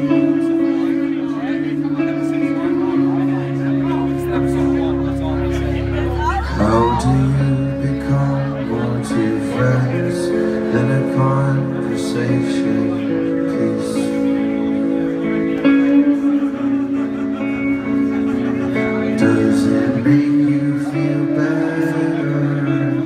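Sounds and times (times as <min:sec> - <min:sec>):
electric guitar chords: 0:00.0 - 0:23.0
person singing: 0:00.0 - 0:23.0.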